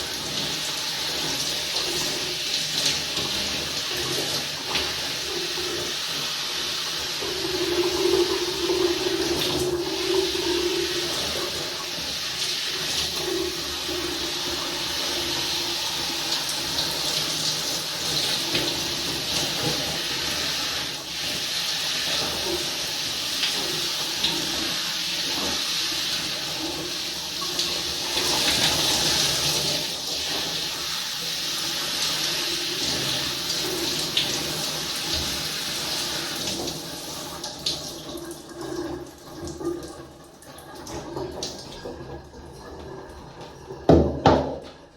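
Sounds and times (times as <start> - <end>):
water running from a tap: 0.0 - 44.9.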